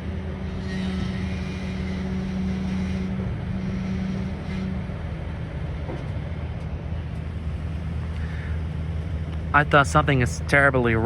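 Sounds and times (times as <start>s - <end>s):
diesel locomotive engine humming: 0.0s - 11.0s.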